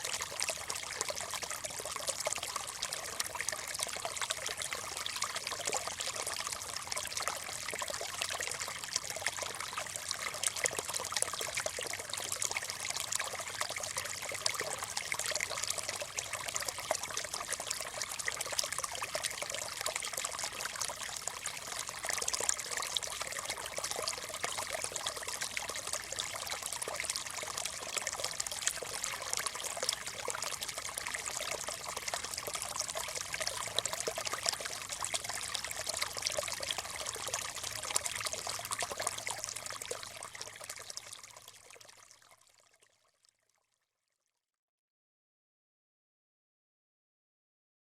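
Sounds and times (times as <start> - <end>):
stream trickling over stones: 0.0 - 43.4.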